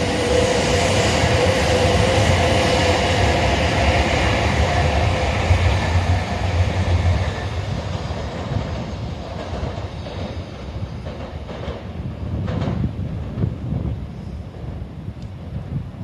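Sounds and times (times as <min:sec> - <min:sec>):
train rumbling and humming: 0:00.0 - 0:16.0.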